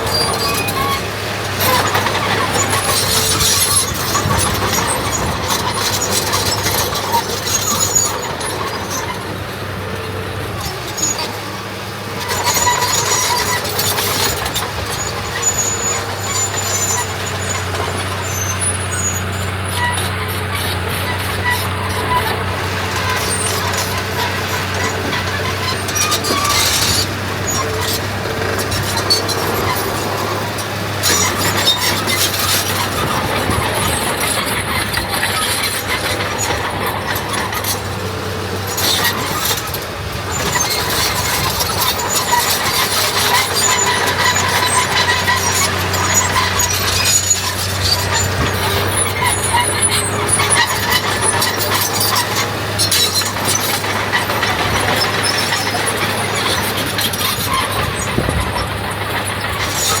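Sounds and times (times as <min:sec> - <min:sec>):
diesel engine under load: 0:00.0 - 1:00.0
metallic squealing: 0:00.0 - 1:00.0.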